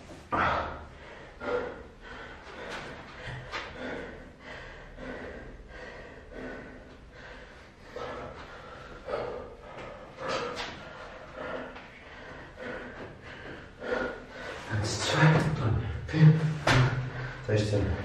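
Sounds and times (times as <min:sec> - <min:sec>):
man breathing hard: 0:00.0 - 0:18.0.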